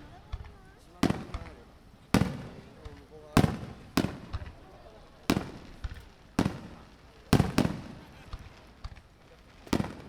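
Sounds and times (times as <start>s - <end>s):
firework pops and cracks: 0.0s - 10.0s
firework shells booming: 0.0s - 10.0s.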